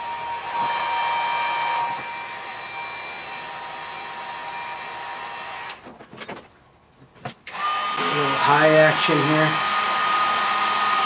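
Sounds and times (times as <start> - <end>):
heat gun blowing: 0.0 - 5.9, 7.5 - 11.0.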